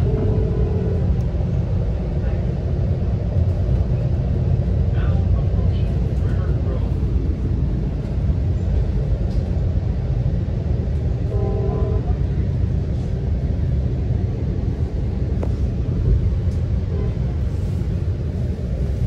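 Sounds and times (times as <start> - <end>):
train car rumbling on track: 0.0 - 19.0.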